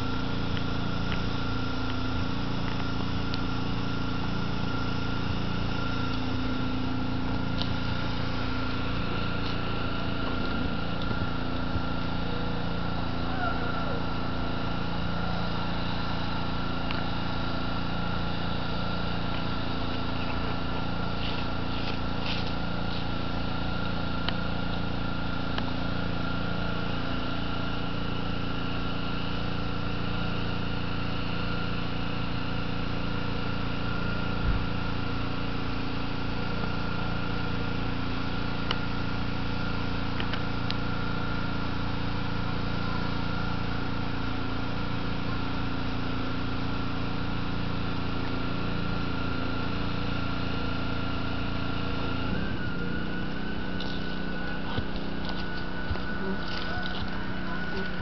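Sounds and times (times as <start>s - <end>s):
motor drone: 0.0s - 58.0s.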